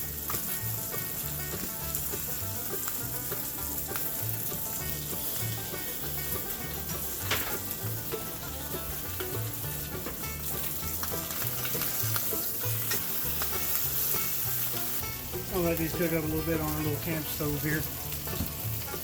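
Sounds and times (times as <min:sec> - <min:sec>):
fish sizzling in a pan: 0:00.0 - 0:19.0
utensil clicking against pan: 0:00.2 - 0:15.5.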